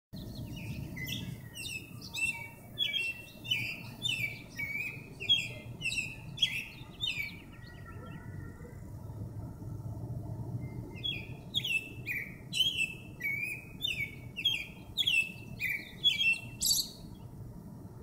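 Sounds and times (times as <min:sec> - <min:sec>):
low steady rumble: 0:00.2 - 0:18.0
songbird singing: 0:00.2 - 0:18.0.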